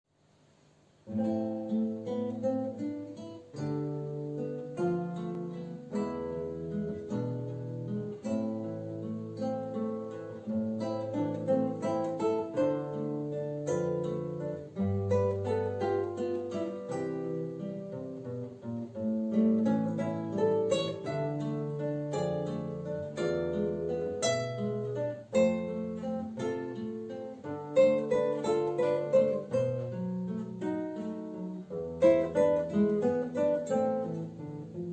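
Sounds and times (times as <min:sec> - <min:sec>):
acoustic guitar duet: 0:00.3 - 0:34.9.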